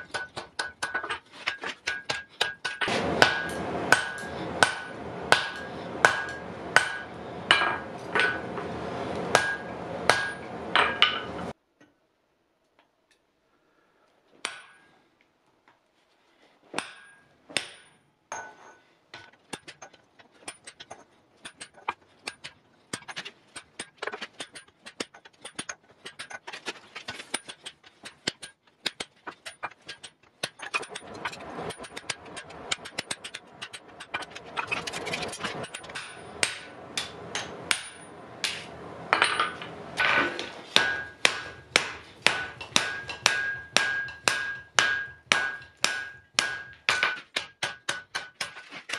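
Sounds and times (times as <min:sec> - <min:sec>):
hammer striking chisel on hot iron: 0:00.0 - 0:11.6, 0:14.4 - 0:14.9, 0:16.8 - 0:48.9
steady background noise: 0:00.0 - 0:48.9.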